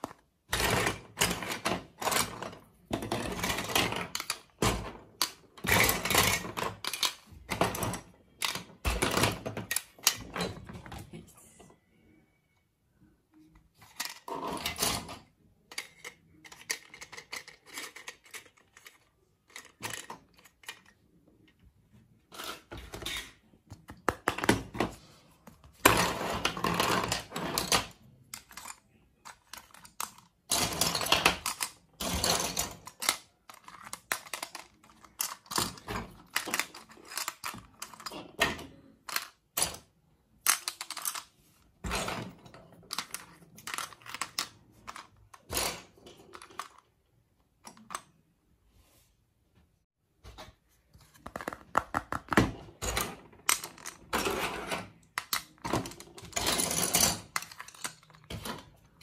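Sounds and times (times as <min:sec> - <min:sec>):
plastic toy pieces clattering: 0:00.0 - 0:11.0, 0:13.7 - 0:21.6, 0:25.7 - 0:47.0, 0:47.6 - 0:48.2, 0:51.2 - 0:59.0.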